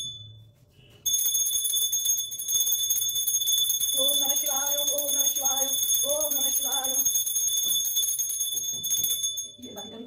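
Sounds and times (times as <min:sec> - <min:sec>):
small hand bell ringing: 0:00.0 - 0:00.4, 0:01.0 - 0:10.0.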